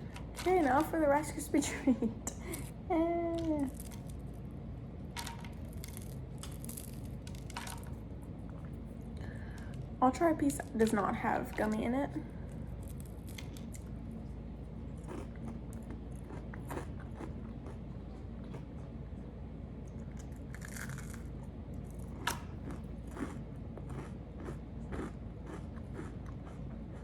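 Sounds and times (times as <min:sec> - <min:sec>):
chewing and crunching: 0:02.3 - 0:04.5, 0:05.1 - 0:10.0, 0:10.6 - 0:27.0.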